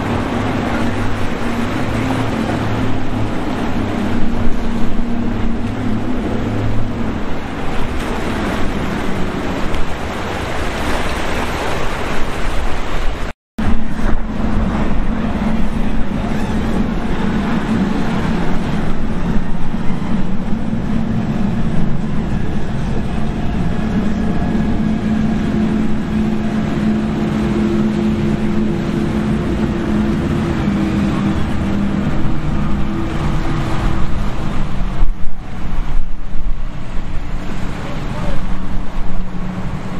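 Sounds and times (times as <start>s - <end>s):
motorboat engine running: 0.0s - 39.9s
rushing water: 0.0s - 39.9s
wind noise: 0.0s - 39.9s.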